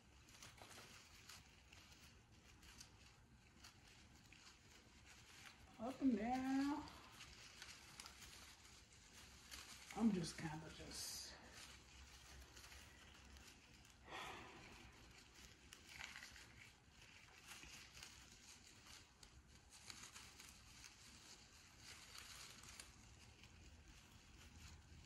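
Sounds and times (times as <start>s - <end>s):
plastic tree needles rustling: 0.0s - 25.0s
tinsel garland crinkling: 0.0s - 25.0s.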